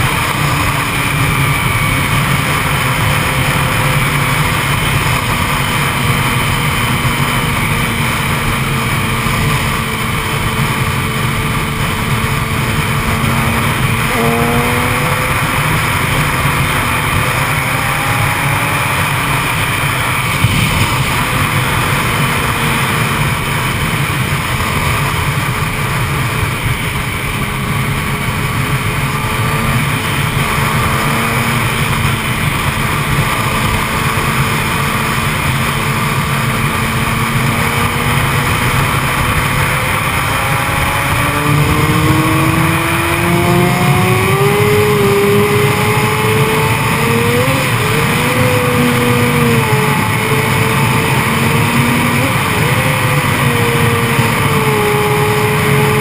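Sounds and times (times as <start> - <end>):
wind rush over helmet: 0.0 - 54.9
motorcycle engine: 0.0 - 56.0.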